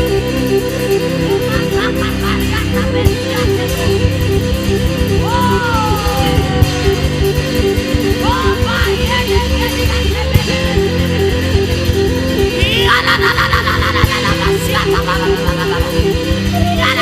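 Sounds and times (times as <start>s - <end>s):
bass: 0.0s - 17.0s
guitar: 0.0s - 17.0s
sliding notes: 0.0s - 17.0s
steady repeating beat: 0.9s - 16.8s.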